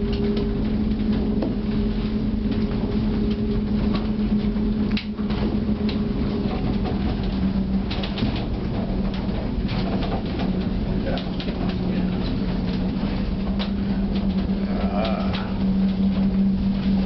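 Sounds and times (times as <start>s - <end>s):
cable car cabin hum and rumble: 0.0s - 17.0s.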